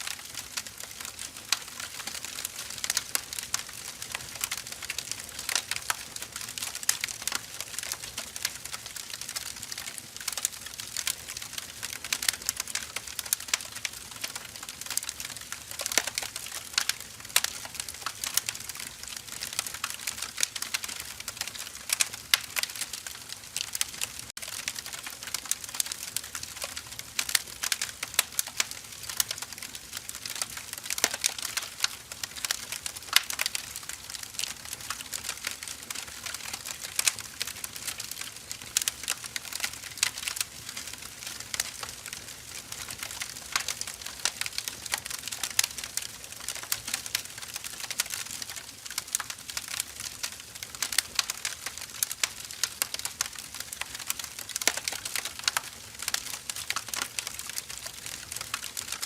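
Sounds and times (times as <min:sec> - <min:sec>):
firewood crackling: 0:00.0 - 0:59.0.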